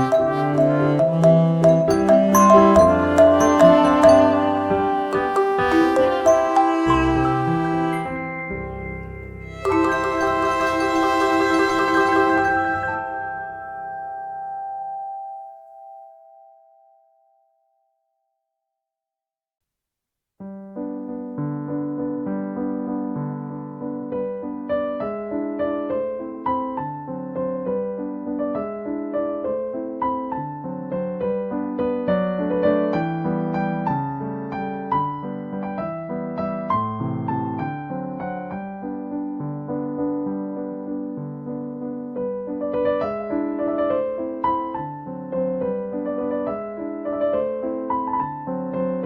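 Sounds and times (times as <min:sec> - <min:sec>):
slow gentle piano music: 0:00.0 - 0:18.4, 0:20.4 - 0:49.0.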